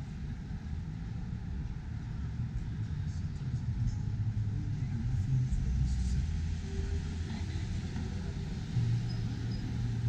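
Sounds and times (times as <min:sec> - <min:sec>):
cars passing slowly: 0:00.0 - 0:10.0.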